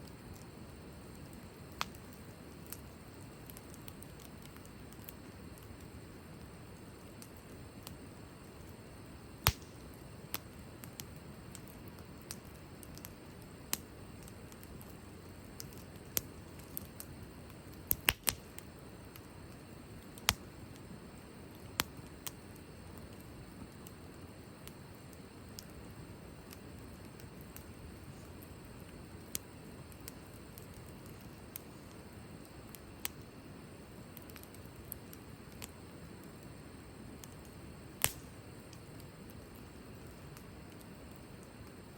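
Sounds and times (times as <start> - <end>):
low hiss of burning: 0.0 - 41.9
wood fire crackling and popping: 0.0 - 41.9.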